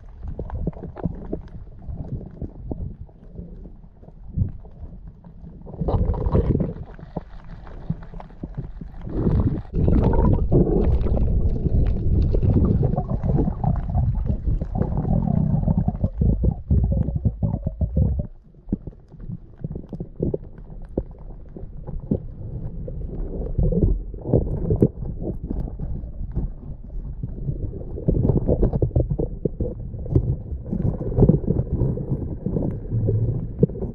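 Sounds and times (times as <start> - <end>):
underwater clicks and crackles: 0.0 - 33.9
underwater rumbling: 0.0 - 33.9.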